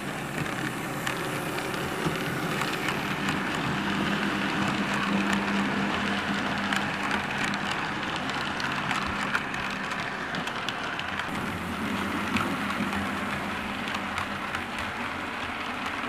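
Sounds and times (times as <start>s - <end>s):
model train wheels rumbling on rail: 0.0s - 16.0s
wheels clicking over rail joints: 0.0s - 16.0s.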